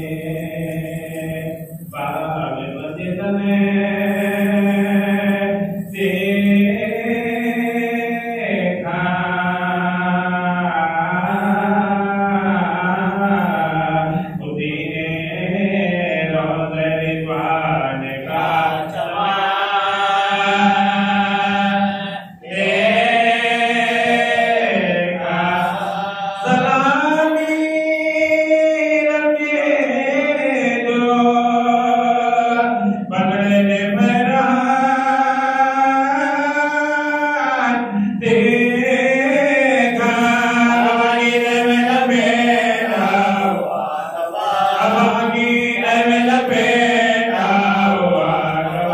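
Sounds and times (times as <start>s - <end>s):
man chanting: 0.0s - 48.9s.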